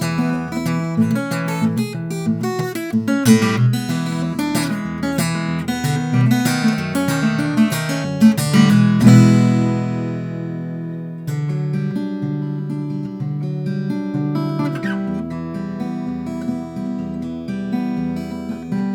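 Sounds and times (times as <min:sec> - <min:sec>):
acoustic guitar playing: 0:00.0 - 0:18.9.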